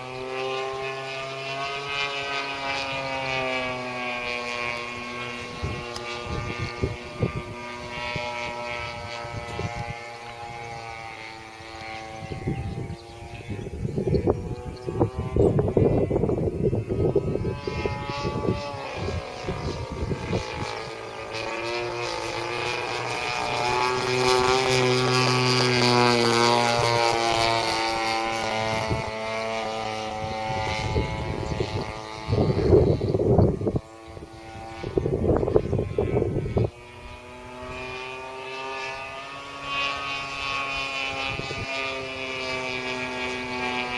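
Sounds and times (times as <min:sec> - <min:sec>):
model airplane engine droning: 0:00.0 - 0:43.9.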